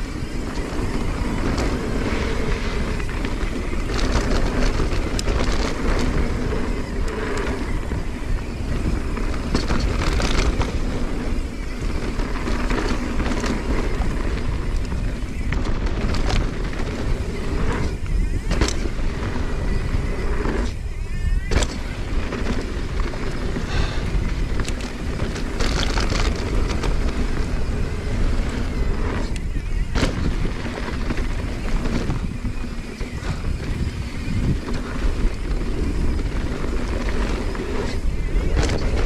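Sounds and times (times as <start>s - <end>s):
tyre and frame noise: 0.0s - 39.0s
wind buffeting microphone: 0.0s - 39.0s.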